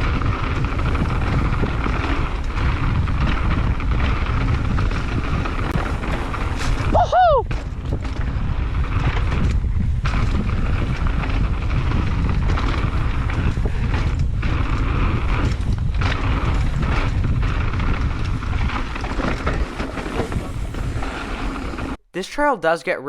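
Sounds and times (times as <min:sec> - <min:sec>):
bike clattering over rocks: 0:00.0 - 0:22.0
bike tyre noise on dirt: 0:00.0 - 0:22.0
wind buffeting microphone: 0:00.0 - 0:22.0.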